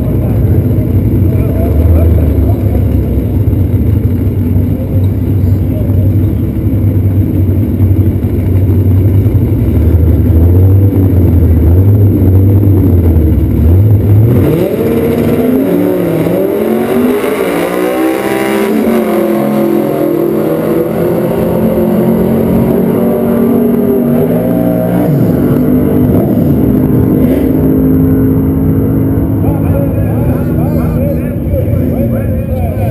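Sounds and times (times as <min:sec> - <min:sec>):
drag racing engines revving: 0:00.0 - 0:32.9.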